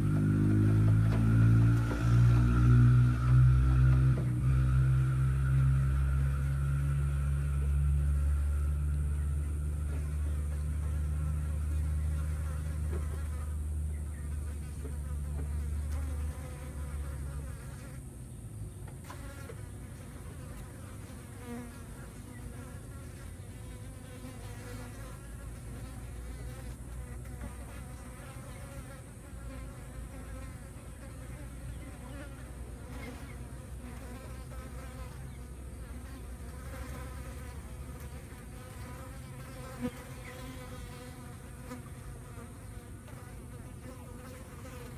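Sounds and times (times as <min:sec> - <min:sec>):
insects buzzing in flight: 0:00.0 - 0:44.9.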